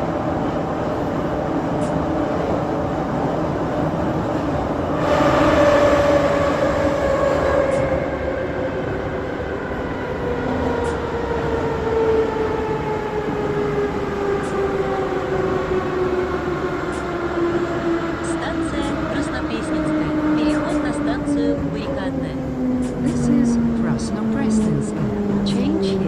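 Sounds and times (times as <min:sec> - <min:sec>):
metro train rumble: 0:00.0 - 0:26.0.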